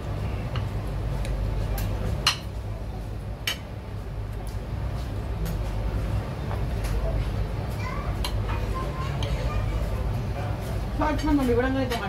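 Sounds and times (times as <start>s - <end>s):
restaurant dining room hum: 0.0s - 12.0s.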